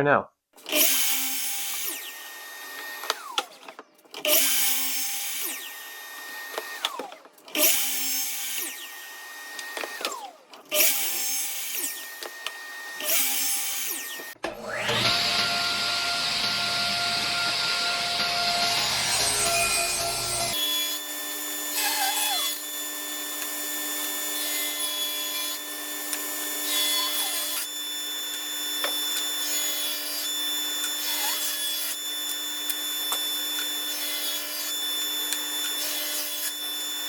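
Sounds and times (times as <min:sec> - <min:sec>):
power tool whine: 0:00.7 - 0:37.0.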